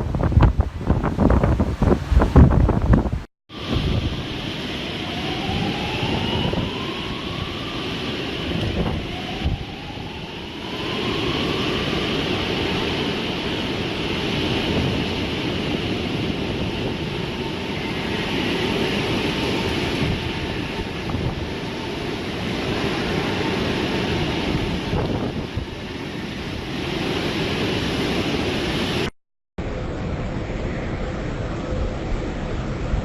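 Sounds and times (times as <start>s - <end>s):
wind gusting on microphone: 0.0s - 33.0s.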